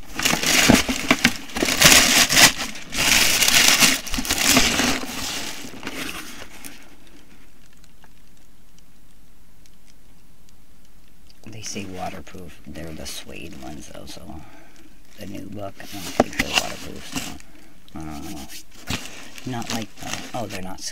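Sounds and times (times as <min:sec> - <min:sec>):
packaging crinkling and rustling: 0:00.0 - 0:10.2, 0:10.8 - 0:20.9.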